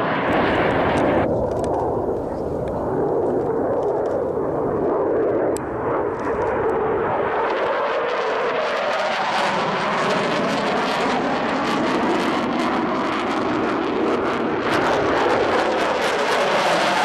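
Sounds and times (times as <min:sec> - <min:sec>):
jet engines flying overhead: 0:00.0 - 0:17.0.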